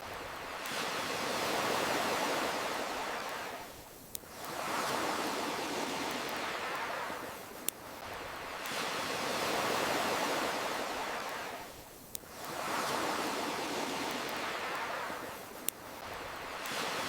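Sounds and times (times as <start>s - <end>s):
campfire crackling: 0.0s - 17.0s
ocean waves: 0.0s - 17.0s.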